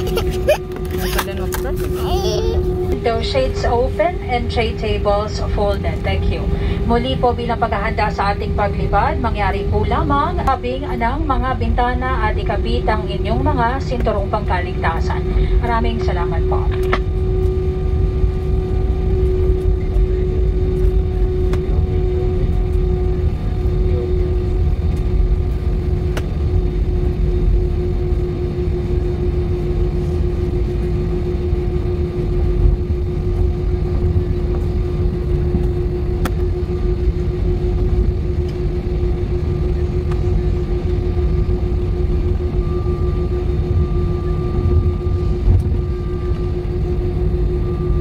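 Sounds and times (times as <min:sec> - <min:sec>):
jet engines low rumble: 0:00.0 - 0:48.0
steady cabin hum: 0:00.0 - 0:48.0.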